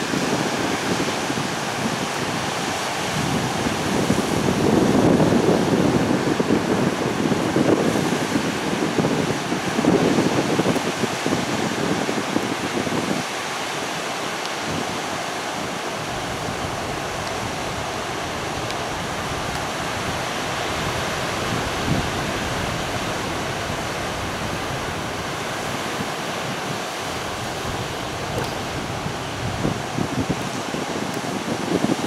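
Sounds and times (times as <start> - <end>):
ocean surf breaking: 0.0 - 32.0
wind buffeting microphone: 0.0 - 32.0.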